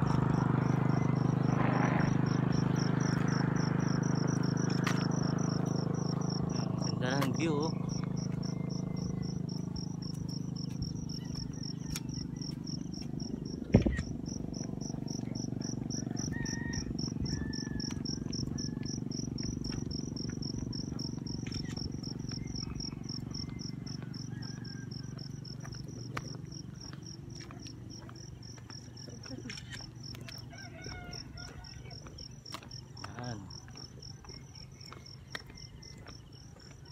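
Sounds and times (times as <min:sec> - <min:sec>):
insect chirping: 0:00.0 - 0:36.9.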